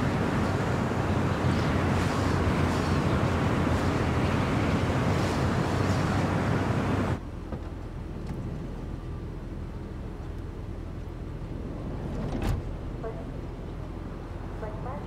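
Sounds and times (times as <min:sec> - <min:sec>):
road and wind noise: 0:00.0 - 0:15.0
van rumble from inside cabin: 0:00.0 - 0:15.0.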